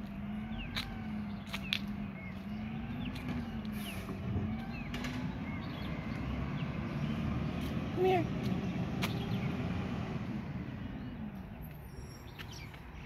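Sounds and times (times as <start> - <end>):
bird chirps: 0.0 - 7.7, 8.7 - 9.6, 10.8 - 13.0.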